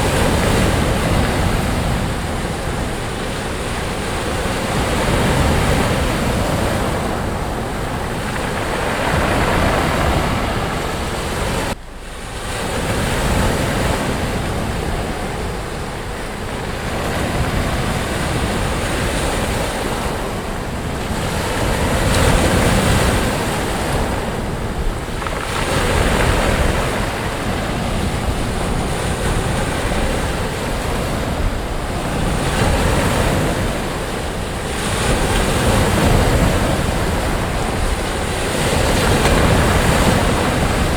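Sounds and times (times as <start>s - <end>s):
waves breaking on beach: 0.0s - 40.9s.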